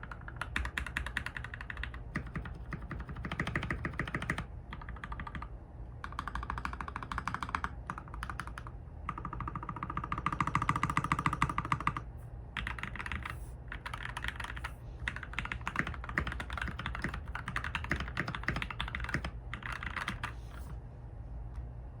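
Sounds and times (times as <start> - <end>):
mechanical keyboard typing: 0.0 - 20.7.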